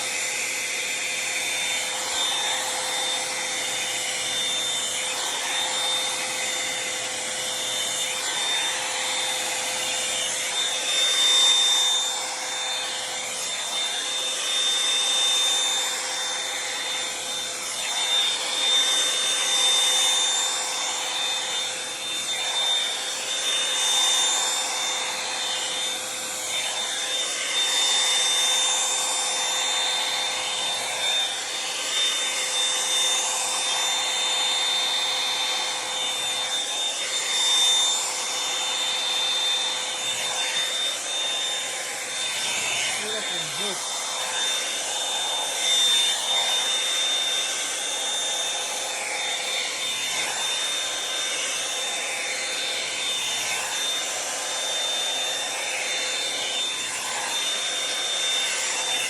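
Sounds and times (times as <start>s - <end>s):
hair dryer brush running: 0.0s - 59.0s.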